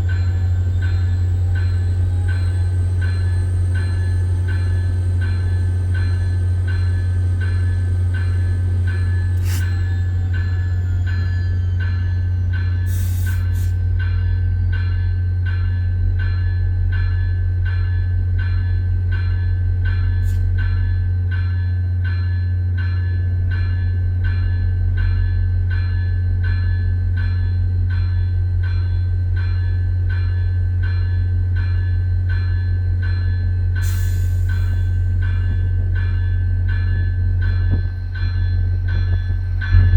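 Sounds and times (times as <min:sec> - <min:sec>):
diesel engine drone: 0:00.0 - 0:25.0, 0:26.8 - 0:39.9
locomotive bell ringing: 0:00.0 - 0:39.9.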